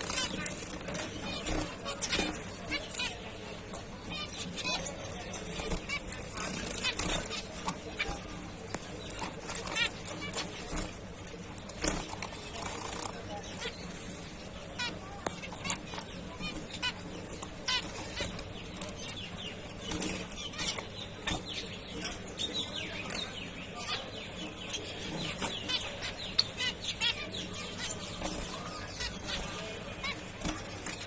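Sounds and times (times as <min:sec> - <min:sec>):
finches chirping: 0:00.0 - 0:31.0.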